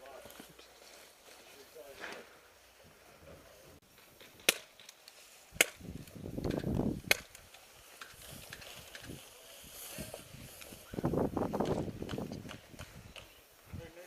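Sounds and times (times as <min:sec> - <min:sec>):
rustling movement: 0:00.0 - 0:13.8.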